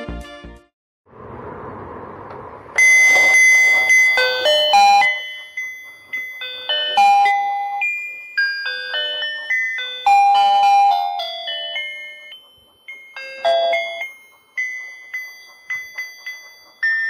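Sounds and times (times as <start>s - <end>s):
electronic toy beeping melody: 2.8s - 17.0s.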